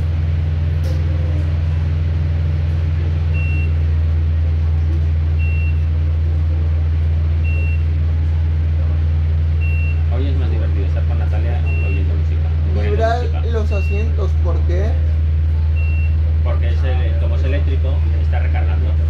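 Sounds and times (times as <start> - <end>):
low hum of machinery: 0.0 - 19.0.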